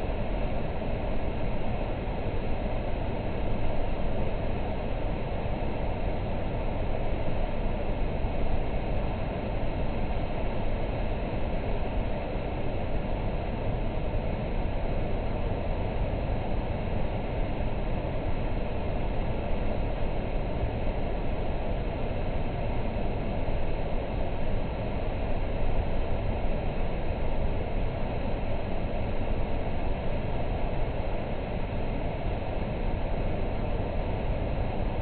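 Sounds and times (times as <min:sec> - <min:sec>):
city noise low rumble: 0:00.0 - 0:35.0.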